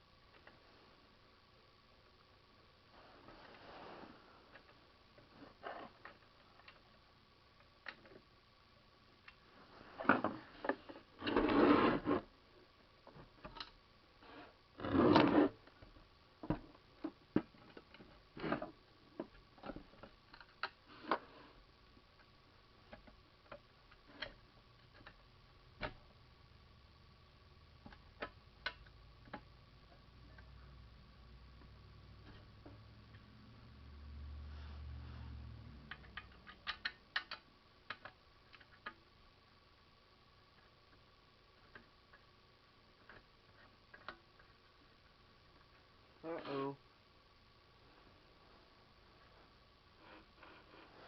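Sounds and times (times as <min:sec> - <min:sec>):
faint high hum: 0:00.0 - 0:51.0.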